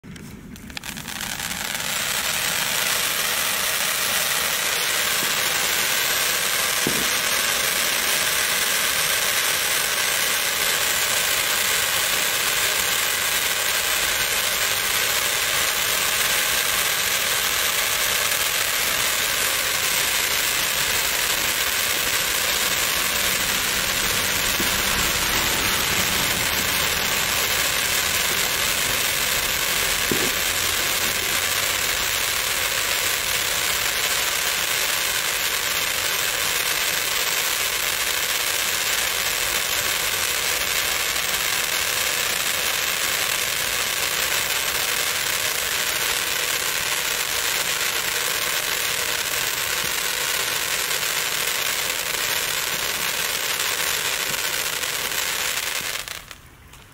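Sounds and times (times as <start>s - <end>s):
firework fountains hissing: 0.0s - 56.9s.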